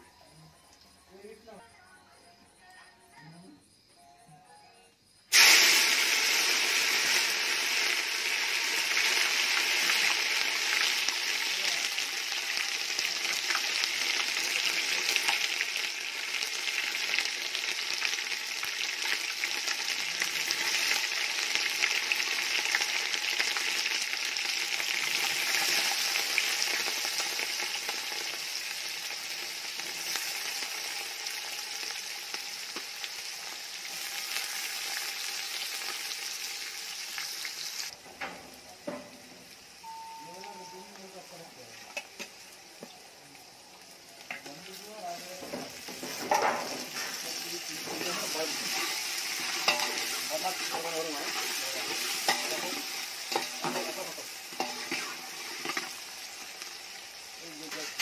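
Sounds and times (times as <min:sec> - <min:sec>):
paste sizzling in hot oil: 0:05.3 - 0:38.0, 0:40.4 - 0:58.0.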